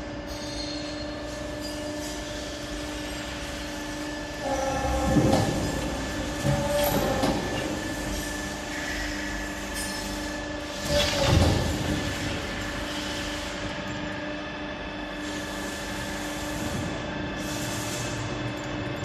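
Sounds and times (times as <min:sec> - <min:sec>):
pipe bending machine humming: 0:00.0 - 0:19.0.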